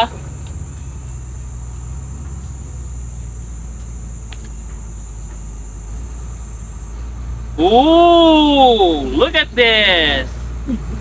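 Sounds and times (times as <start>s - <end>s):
loader engine rumbling: 0.0s - 11.0s.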